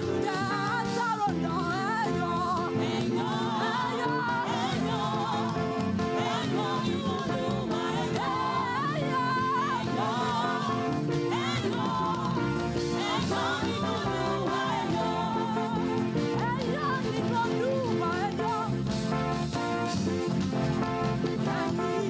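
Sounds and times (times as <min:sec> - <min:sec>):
band playing: 0:00.0 - 0:22.0
people singing: 0:00.0 - 0:22.0.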